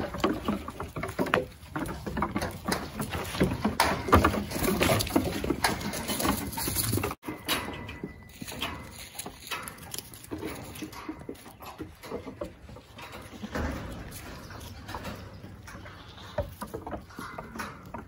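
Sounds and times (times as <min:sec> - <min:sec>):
hooves clattering on wood: 0:00.0 - 0:18.0.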